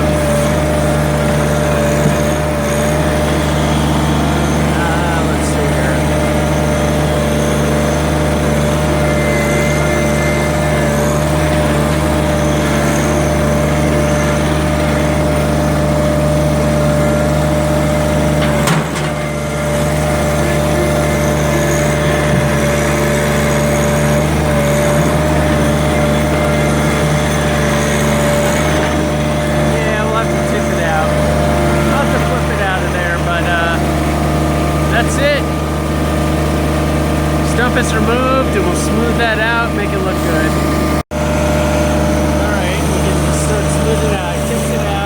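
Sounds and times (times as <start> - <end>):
engine whine: 0.0 - 45.0
tractor diesel engine running: 0.0 - 45.0.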